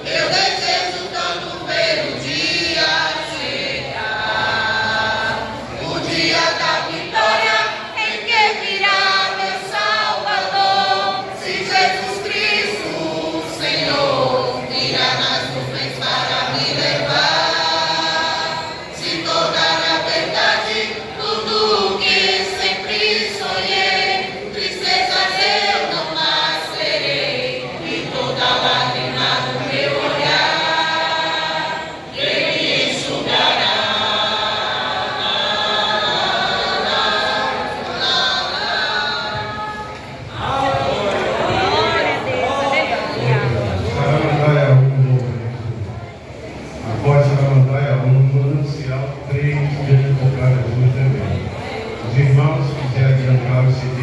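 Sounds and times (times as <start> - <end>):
choir singing in harmony: 0.0 - 44.9.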